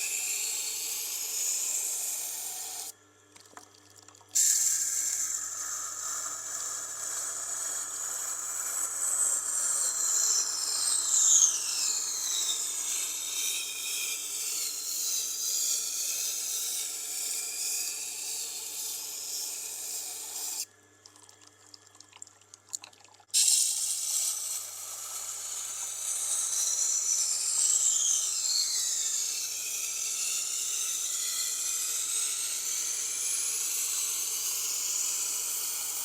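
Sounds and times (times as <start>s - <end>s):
knife grinding on sharpening wheel: 0.0s - 2.9s, 4.4s - 20.7s, 23.3s - 36.0s
faint motor hum: 0.0s - 36.0s.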